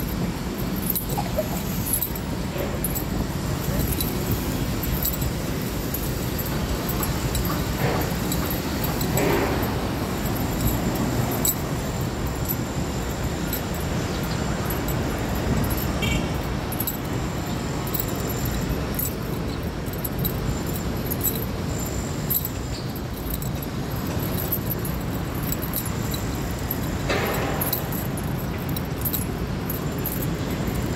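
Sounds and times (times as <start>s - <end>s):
low rumble of traffic: 0.0s - 30.9s.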